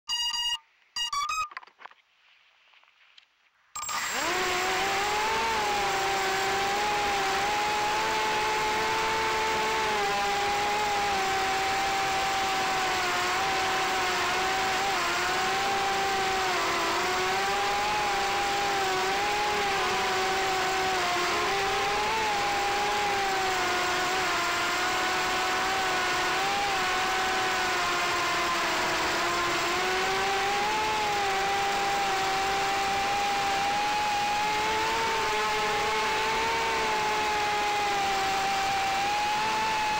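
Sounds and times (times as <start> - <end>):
drone motors whining: 3.8 - 39.9.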